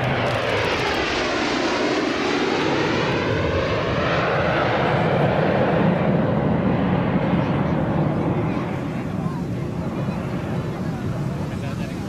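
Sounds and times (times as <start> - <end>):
jet aircraft roaring in flight: 0.0 - 12.0.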